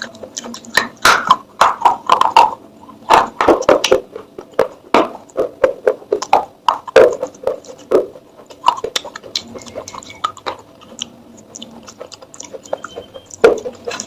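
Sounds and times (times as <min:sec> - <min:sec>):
clay pot pieces crunching: 0:00.0 - 0:14.0.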